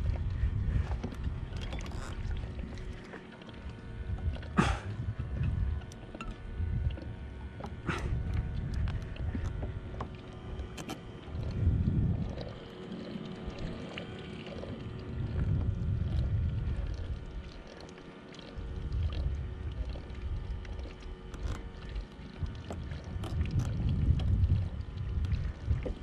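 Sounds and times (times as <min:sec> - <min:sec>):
wind rumbling on microphone: 0:00.0 - 0:17.8, 0:18.5 - 0:26.0.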